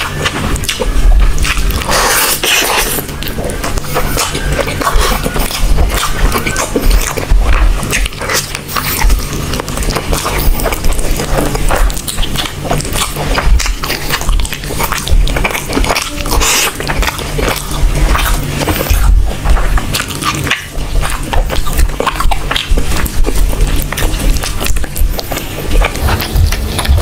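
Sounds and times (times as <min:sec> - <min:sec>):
person chewing and lip-smacking: 0:00.0 - 0:27.0.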